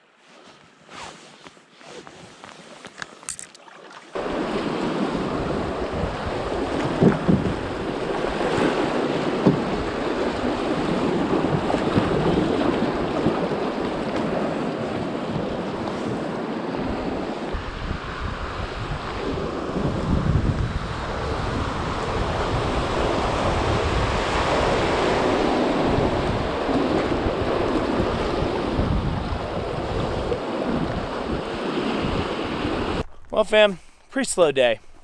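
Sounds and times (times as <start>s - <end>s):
water splashing against raft: 1.9s - 33.1s
wind buffeting microphone: 4.2s - 33.3s.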